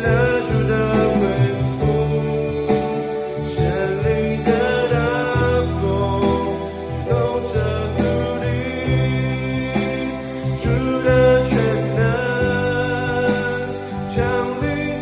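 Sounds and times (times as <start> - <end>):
drum and cymbal beat: 0.0 - 15.0
guitar chords: 0.0 - 15.0
worship band music: 0.0 - 15.0.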